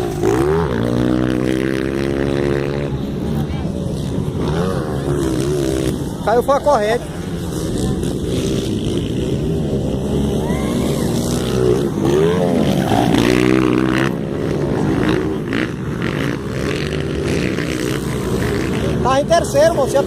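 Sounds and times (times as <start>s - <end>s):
motorbike engines revving past: 0.0s - 20.0s.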